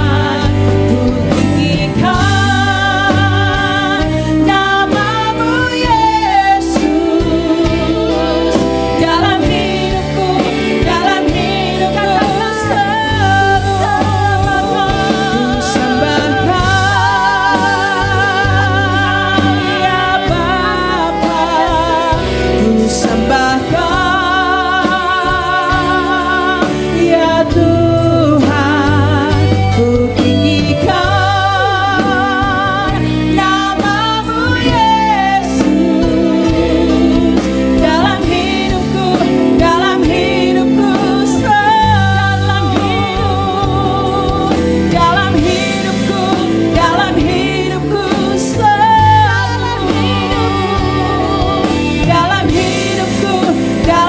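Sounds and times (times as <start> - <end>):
electronic keyboard accompaniment: 0.0 - 54.0
women singing worship song: 0.0 - 54.0.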